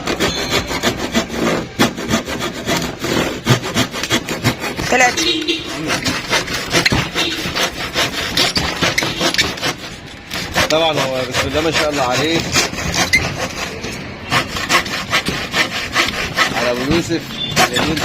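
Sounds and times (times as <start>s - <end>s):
hand saw cutting wood: 0.0s - 18.0s.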